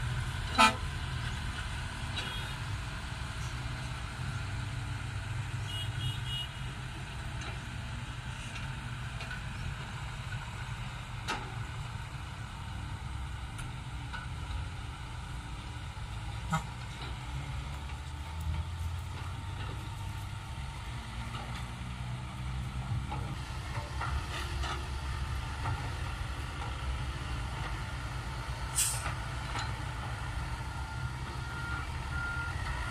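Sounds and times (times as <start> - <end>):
dump truck diesel engines: 0.0 - 32.9.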